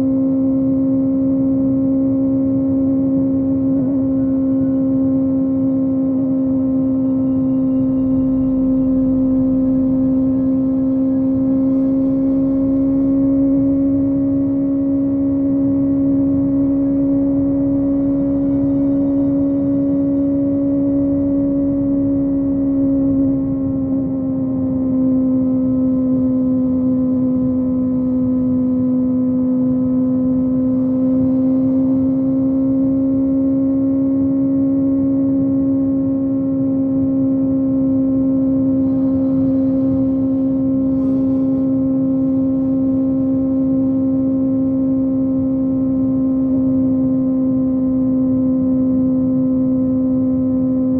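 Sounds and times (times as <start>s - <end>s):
wind and road rush: 0.0s - 50.8s
motorcycle engine at high revs: 0.0s - 50.9s.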